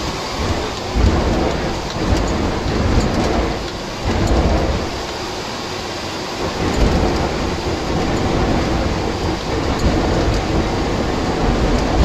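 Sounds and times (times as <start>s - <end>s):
hull rumbling over water: 0.0s - 12.0s
jet engines: 0.0s - 12.0s.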